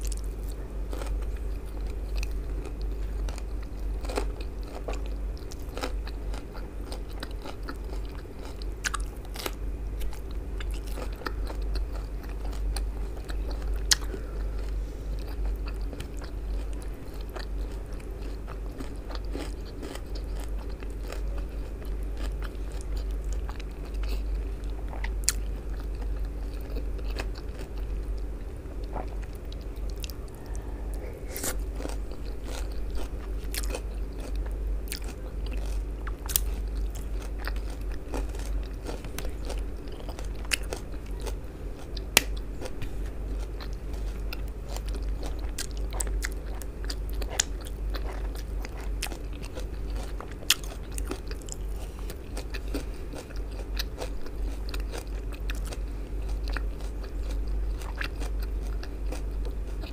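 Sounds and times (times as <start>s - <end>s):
person chewing and smacking: 0.0s - 59.9s.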